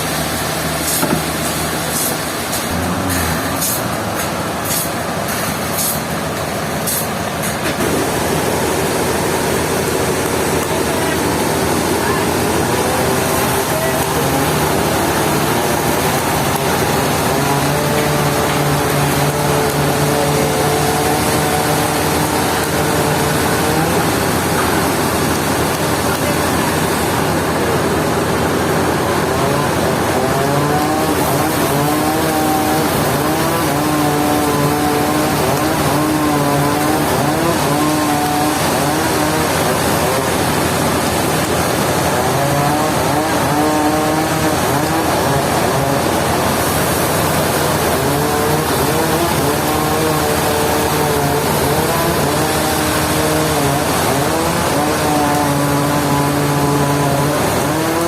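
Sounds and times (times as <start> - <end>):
sawmill machinery din: 0.0 - 58.0.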